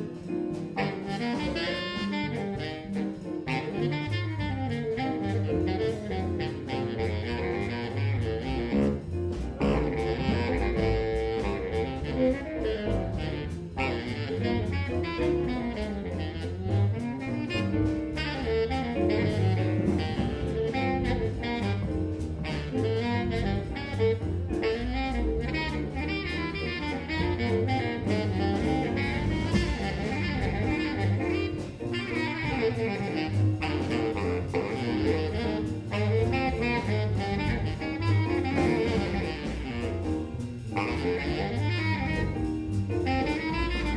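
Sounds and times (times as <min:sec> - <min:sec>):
saxophone lead: 0:00.0 - 0:43.9
steady beat: 0:00.0 - 0:43.9.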